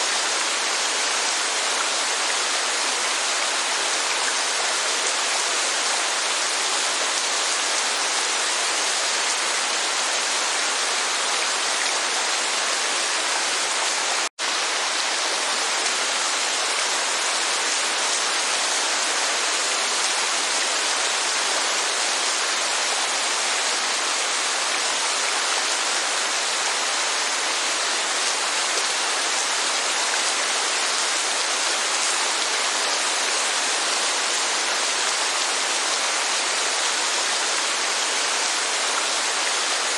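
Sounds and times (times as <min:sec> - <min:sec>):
steady rain: 0:00.0 - 0:39.9
waterfall: 0:00.0 - 0:39.9.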